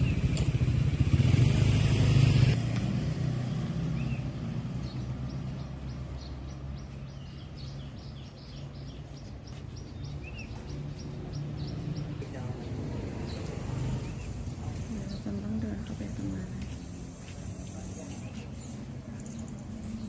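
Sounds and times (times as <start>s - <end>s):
vehicle engine running: 0.0s - 8.0s, 10.4s - 20.0s
high bird chirps: 3.1s - 20.0s.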